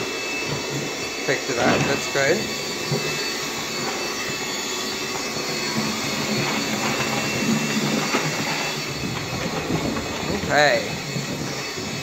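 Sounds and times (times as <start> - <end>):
stick vacuum running: 0.0 - 12.0.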